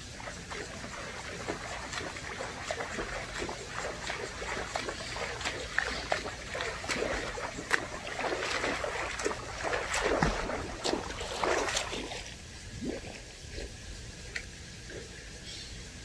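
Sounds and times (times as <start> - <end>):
water splashing: 0.0 - 15.1.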